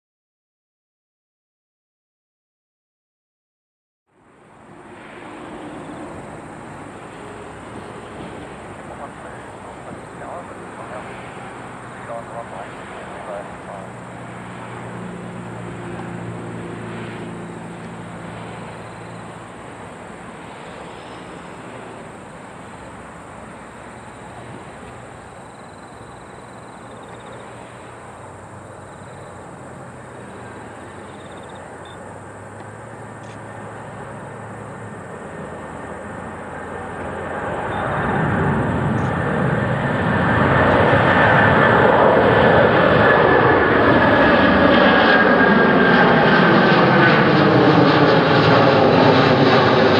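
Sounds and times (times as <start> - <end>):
distant jet engines rushing: 4.1 - 49.9.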